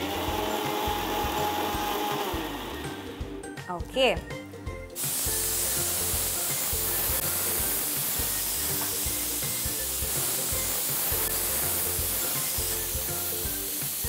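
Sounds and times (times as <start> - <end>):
pressure cooker hissing: 0.0 - 3.1, 5.0 - 14.0
background music: 0.0 - 14.0.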